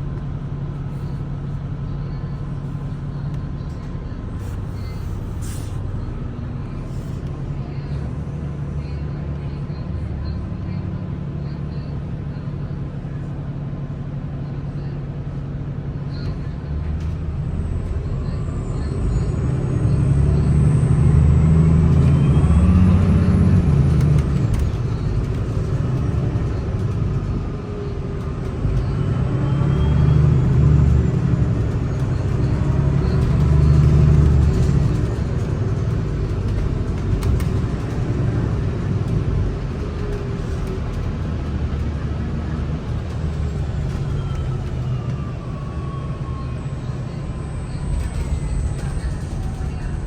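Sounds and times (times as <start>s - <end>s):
bus diesel engine rumbling: 0.0s - 50.0s.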